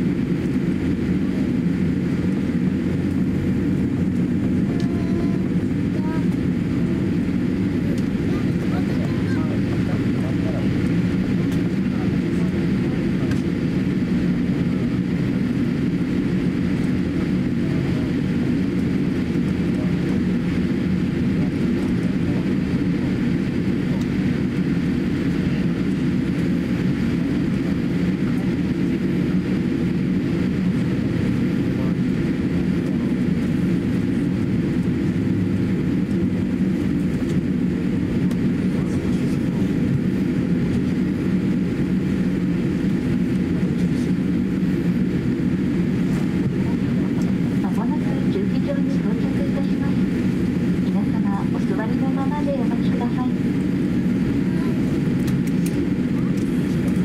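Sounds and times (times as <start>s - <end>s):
aircraft engine hum: 0.0s - 57.0s.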